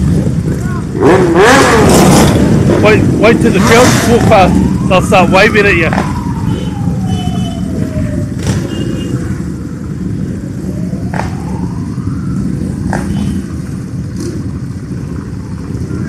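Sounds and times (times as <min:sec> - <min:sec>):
motorcycle engine revving: 0:00.0 - 0:16.0
motorcycle engines rumbling: 0:00.0 - 0:16.0.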